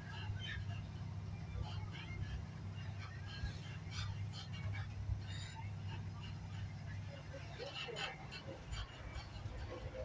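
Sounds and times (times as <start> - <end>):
train rumble inside coach: 0.0 - 10.0.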